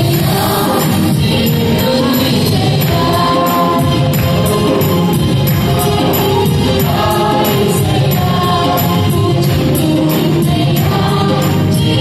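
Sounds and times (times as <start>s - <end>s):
women singing into microphones: 0.0s - 12.0s.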